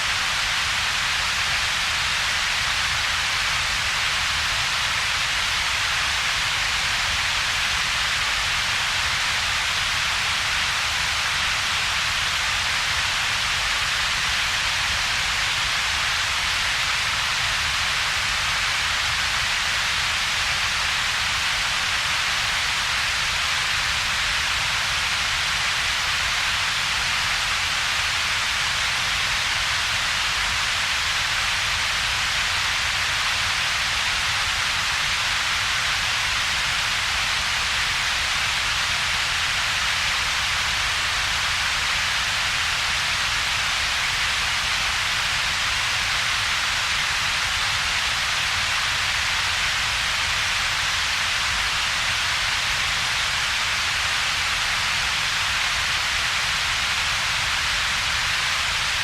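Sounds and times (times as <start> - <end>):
steady synthetic hiss: 0.0 - 59.0.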